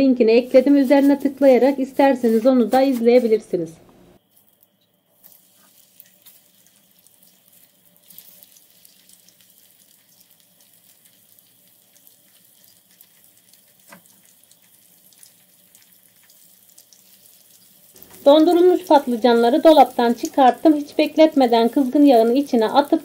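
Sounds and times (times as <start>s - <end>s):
hot oil sizzling and crackling: 0.4s - 3.2s, 4.2s - 23.0s
loud crackles in hot oil: 0.4s - 3.3s, 4.2s - 23.0s.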